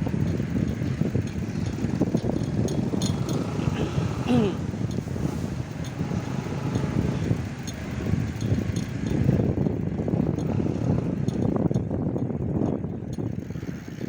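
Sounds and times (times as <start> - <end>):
bicycle road noise: 0.0 - 14.0
wind rumbling on microphone: 0.0 - 14.0.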